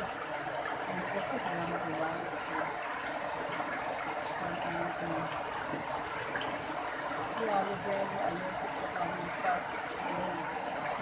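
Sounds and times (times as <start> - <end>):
drain pipe gushing water: 0.0 - 11.0
rain on standing water: 0.0 - 11.0.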